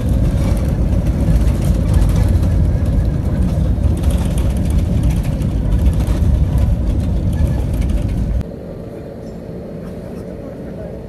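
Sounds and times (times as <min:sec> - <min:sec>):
jet engines and wheels rumbling: 0:00.0 - 0:11.0
quieter steady cabin hum: 0:00.0 - 0:11.0.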